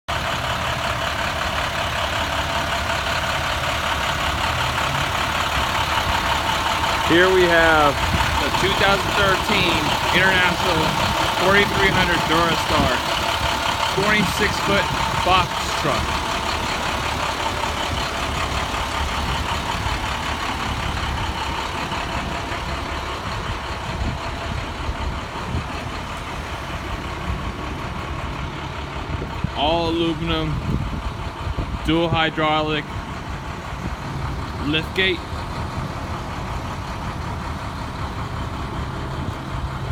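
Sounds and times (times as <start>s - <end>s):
diesel truck engine idling: 0.1s - 39.9s.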